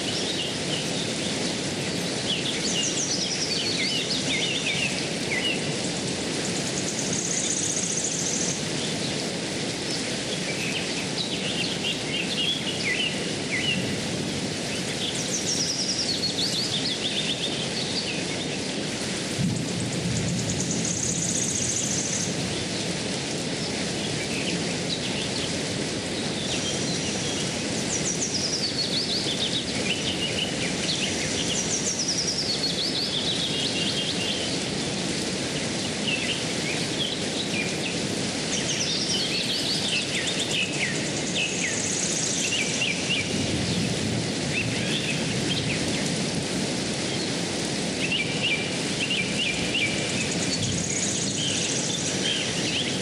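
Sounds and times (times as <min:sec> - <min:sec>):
rocky stream rushing: 0:00.0 - 0:19.9, 0:20.8 - 0:53.0.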